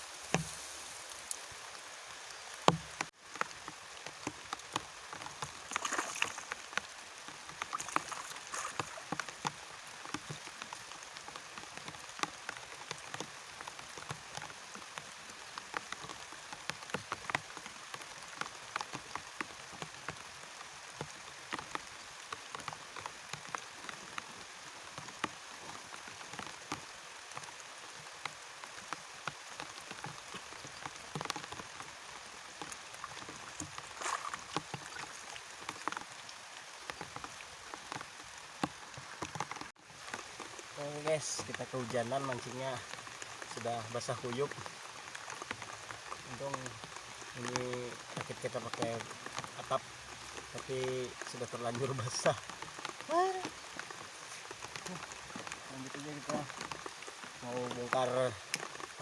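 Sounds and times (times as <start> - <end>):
steady rain: 0.0 - 59.0
raindrops ticking on a roof: 0.1 - 59.0.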